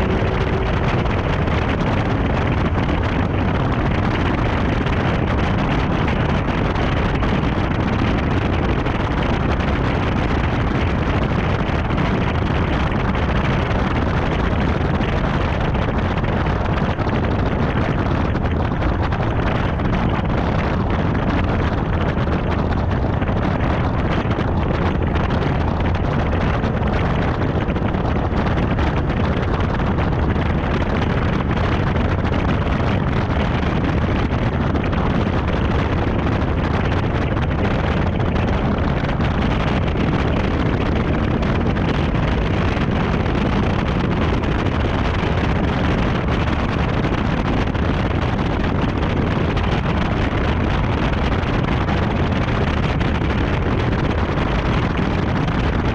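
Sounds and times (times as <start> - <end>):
car running noise: 0.0 - 55.9
wind rumbling on microphone: 0.0 - 55.9.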